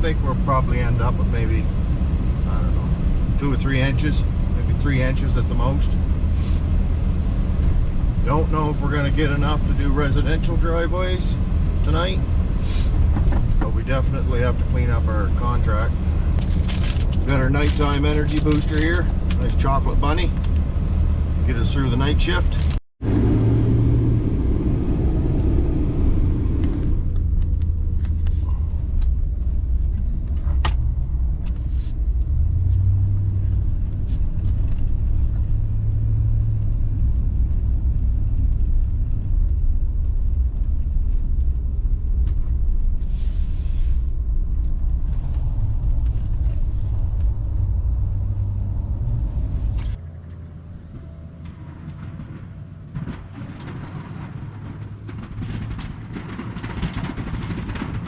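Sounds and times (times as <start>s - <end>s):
vehicle driving rumble: 0.0s - 58.0s.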